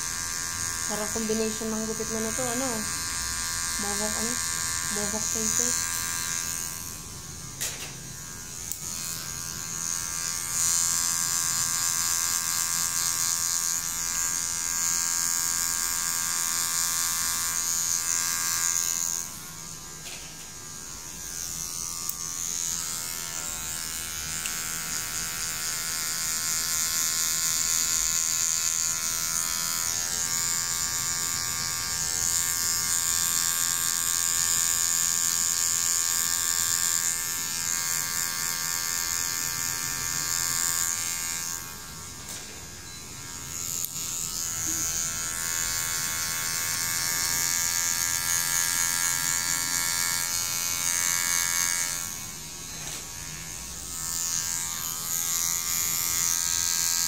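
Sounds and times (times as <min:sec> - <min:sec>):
hair clipper buzzing: 0:00.0 - 0:57.0.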